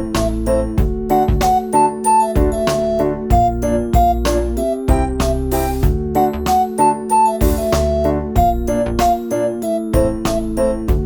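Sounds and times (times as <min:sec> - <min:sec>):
piano melody with bass and beat: 0:00.0 - 0:11.0.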